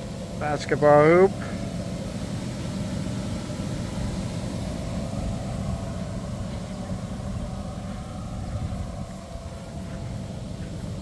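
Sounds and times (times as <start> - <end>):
blower droning: 0.0 - 11.0.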